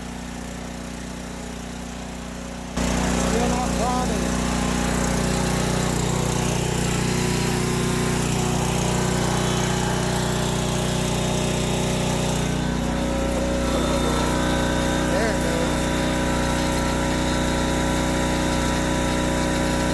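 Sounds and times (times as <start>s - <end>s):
pressure washer running: 0.0s - 19.9s.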